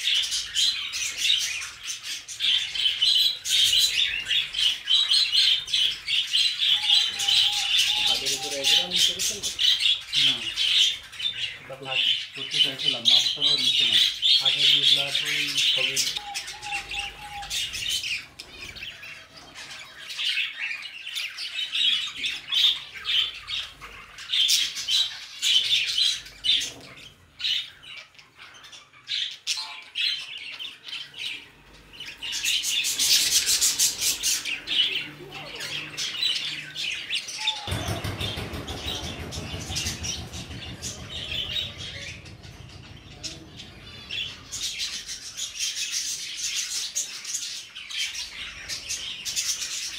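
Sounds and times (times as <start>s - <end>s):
budgerigars chattering: 0.0s - 49.9s.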